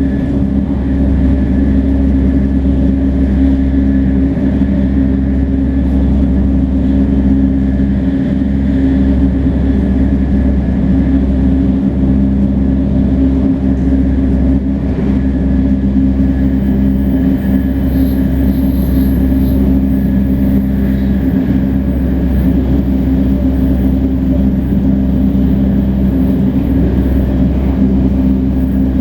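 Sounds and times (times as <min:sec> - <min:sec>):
train running with motor tones: 0:00.0 - 0:29.0.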